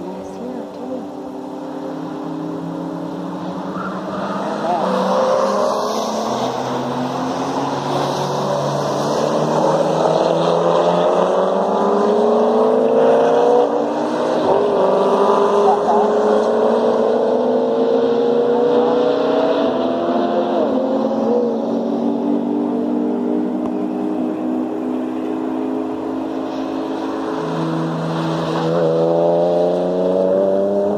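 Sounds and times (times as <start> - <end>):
sports car engines racing: 0.0 - 30.9.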